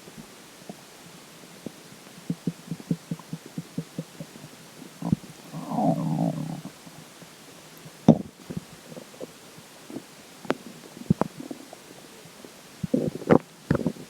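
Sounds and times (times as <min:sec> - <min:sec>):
stomach gurgling and popping: 0:01.6 - 0:06.9, 0:07.8 - 0:14.0.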